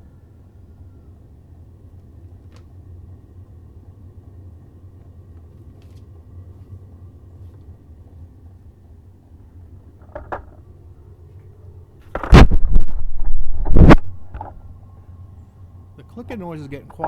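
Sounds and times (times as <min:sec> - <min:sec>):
air heater blower humming: 0:00.0 - 0:17.0.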